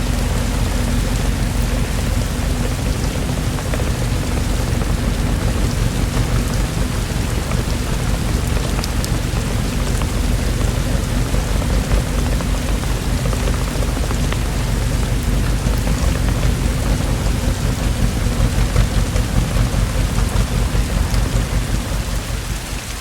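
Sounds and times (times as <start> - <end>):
low rumble: 0.0 - 23.0
steady rainfall: 0.0 - 23.0.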